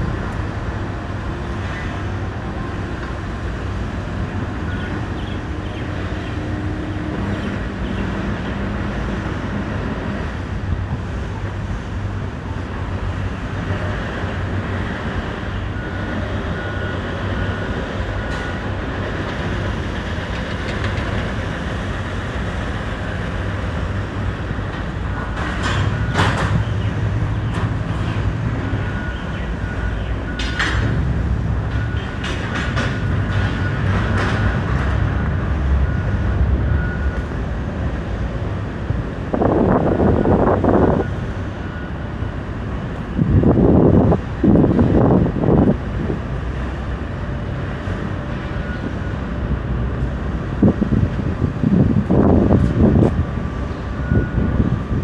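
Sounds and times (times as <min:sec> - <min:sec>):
heavy city traffic rumble: 0:00.0 - 0:55.0.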